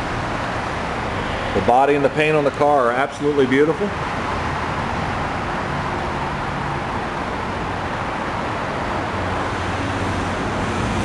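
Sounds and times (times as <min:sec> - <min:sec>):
traffic rushing: 0:00.0 - 0:11.0.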